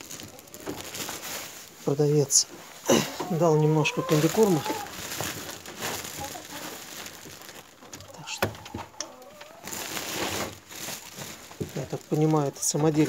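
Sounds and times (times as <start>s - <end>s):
plastic sack rustling and crinkling: 0.0s - 13.0s.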